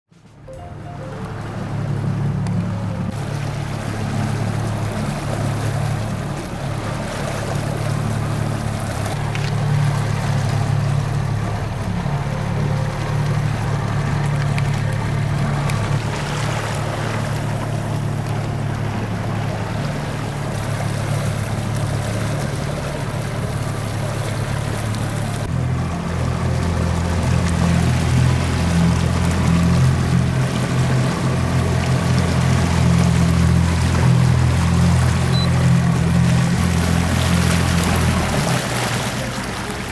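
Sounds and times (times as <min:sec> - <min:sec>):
outboard motor running: 0:00.2 - 0:39.9
water rushing along hull: 0:00.2 - 0:39.9.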